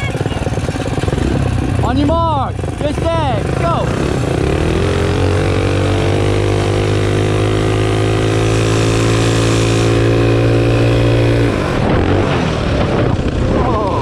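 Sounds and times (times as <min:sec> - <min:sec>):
small engine revving high: 0:02.7 - 0:14.0.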